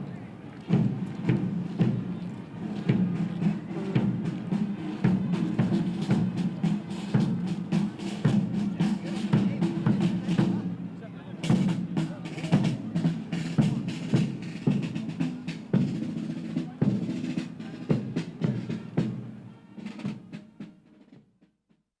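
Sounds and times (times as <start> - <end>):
bass drum beats: 0.6 - 10.8, 11.4 - 19.2
snare drum rolls: 0.6 - 21.3.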